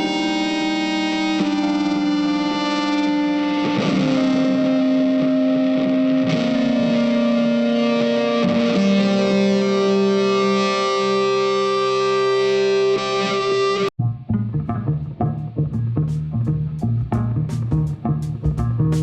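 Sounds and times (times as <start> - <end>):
distorted electric guitar notes: 0.0 - 19.0.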